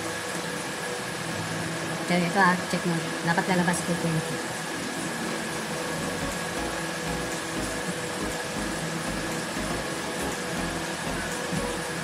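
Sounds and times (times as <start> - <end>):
cooling fan blowing: 0.0 - 12.0
steady hum: 0.0 - 12.0.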